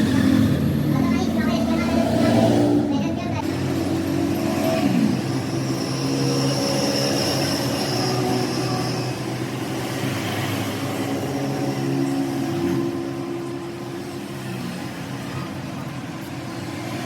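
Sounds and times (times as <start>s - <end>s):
noisy background: 0.0s - 17.0s.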